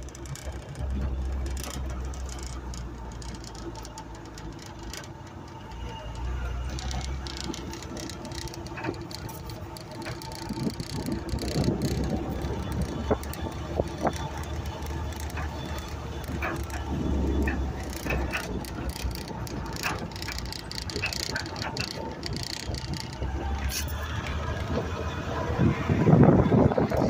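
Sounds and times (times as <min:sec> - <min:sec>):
low engine rumble: 0:00.0 - 0:27.0
vehicle body rattling and knocking: 0:00.0 - 0:27.0.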